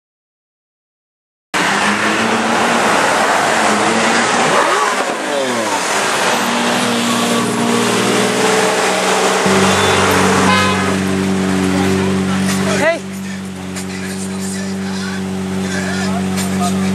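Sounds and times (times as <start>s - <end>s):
car engine revving: 1.6s - 16.9s.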